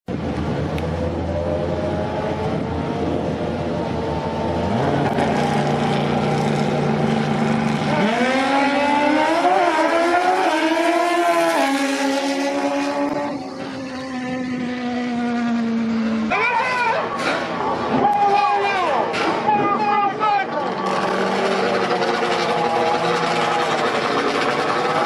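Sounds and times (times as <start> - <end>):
motorcycle engines revving: 0.1 - 19.5, 20.4 - 25.0.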